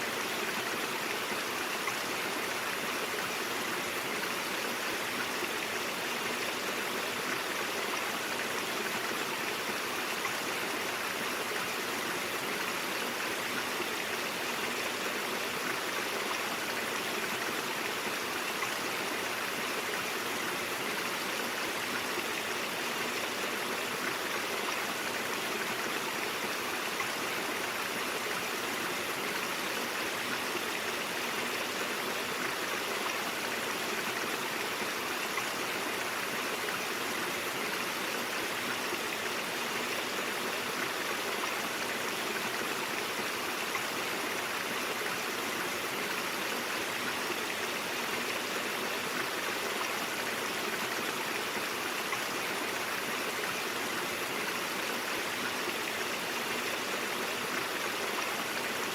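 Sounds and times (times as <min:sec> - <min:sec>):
brook water flowing: 0:00.0 - 0:58.9.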